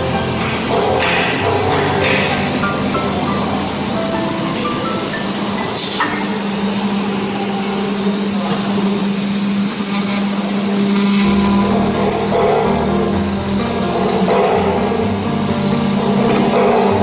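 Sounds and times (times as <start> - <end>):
spindle humming with high whine: 0.0 - 17.0.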